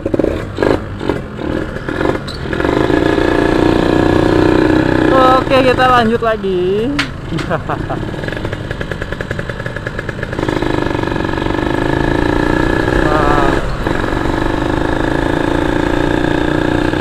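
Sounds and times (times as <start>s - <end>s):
motorcycle engine riding off: 0.0s - 17.0s.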